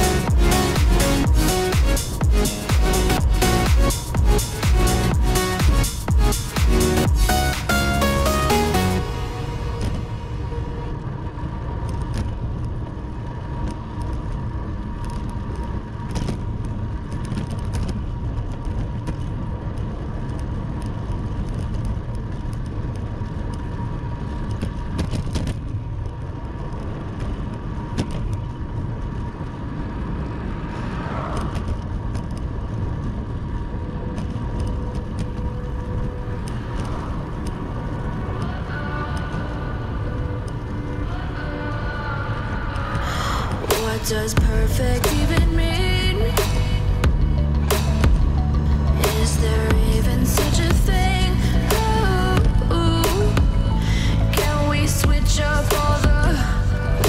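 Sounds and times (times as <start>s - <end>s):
bicycle road noise: 0.0s - 57.0s
wind rushing over microphone: 9.2s - 57.0s.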